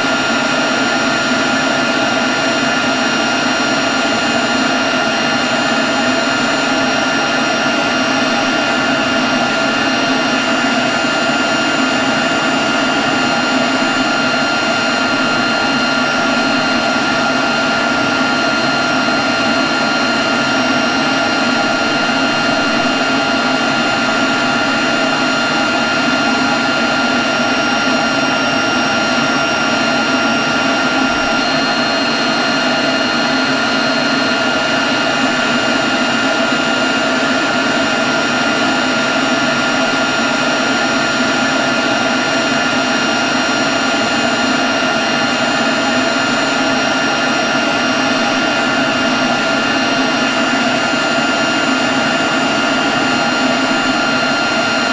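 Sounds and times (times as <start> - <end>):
leaf blower running: 0.0 - 54.9.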